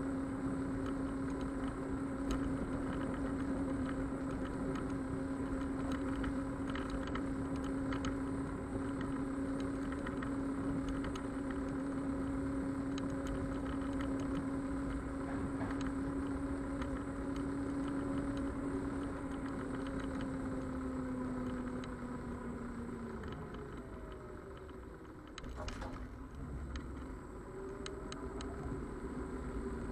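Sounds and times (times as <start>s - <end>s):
electric scooter motor whine: 0.0s - 29.9s
faint ticks: 0.1s - 29.9s.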